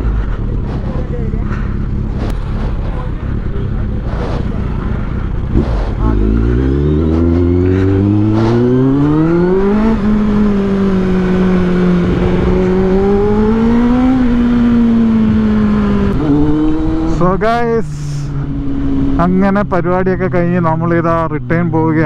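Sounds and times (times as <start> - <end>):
wind rush: 0.0 - 19.2
motorcycle engine revving: 0.0 - 22.0.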